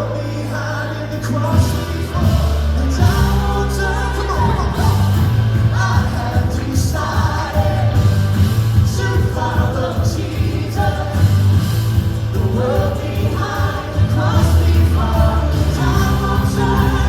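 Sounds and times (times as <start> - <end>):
bass notes: 0.0 - 17.0
singers sustaining phrases: 0.0 - 17.0
worship band playing: 0.0 - 17.0
steady drum beat: 1.5 - 17.0.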